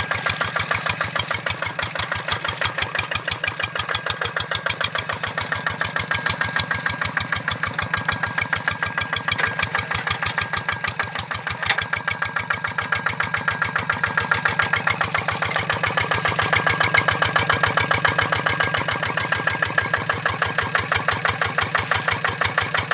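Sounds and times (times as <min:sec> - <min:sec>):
single-cylinder diesel engine knocking: 0:00.0 - 0:22.9.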